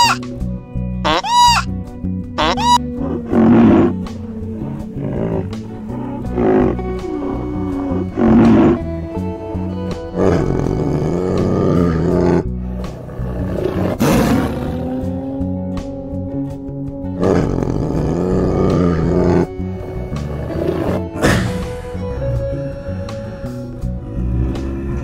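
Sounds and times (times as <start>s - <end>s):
background music: 0.0s - 25.0s
tiger roaring: 2.4s - 25.0s.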